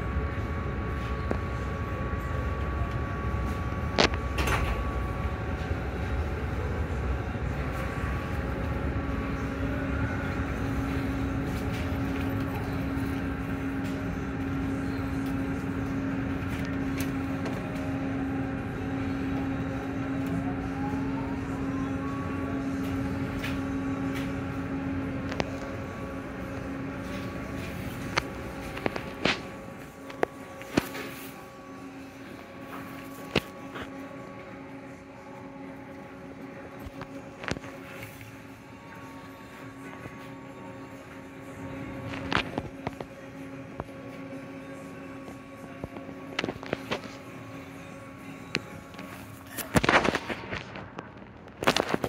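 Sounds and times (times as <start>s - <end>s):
car wash machinery rumble: 0.0s - 52.0s
steady hum: 0.0s - 52.0s.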